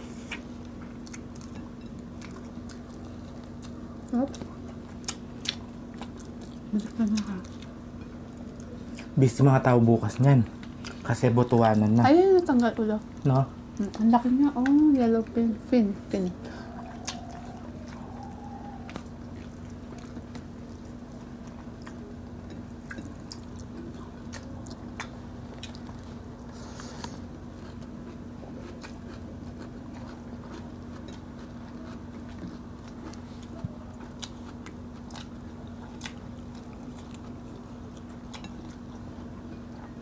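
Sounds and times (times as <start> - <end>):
people chewing: 0.0 - 40.0
steady low hum: 0.0 - 40.0.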